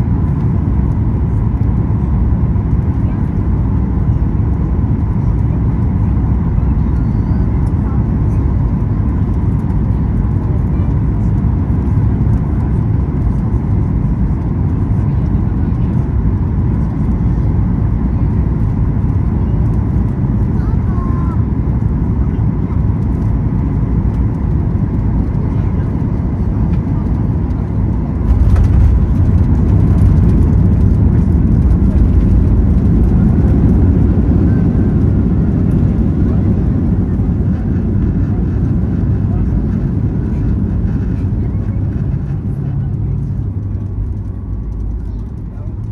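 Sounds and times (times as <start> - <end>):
airliner cabin rumble: 0.0 - 45.9.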